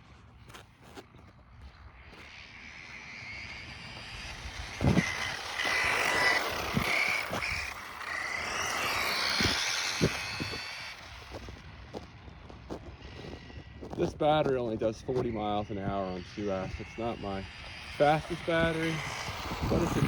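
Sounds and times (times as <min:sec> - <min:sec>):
rc car motor whining: 0:00.0 - 0:20.0.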